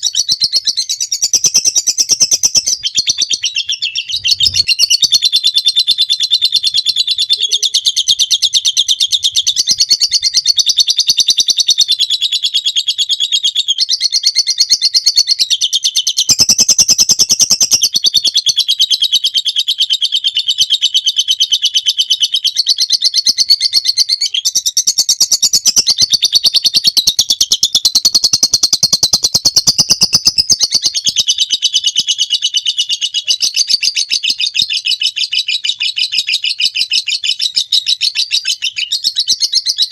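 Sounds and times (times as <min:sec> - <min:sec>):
lovebird chattering trill: 0:00.0 - 0:12.7, 0:16.2 - 0:39.9.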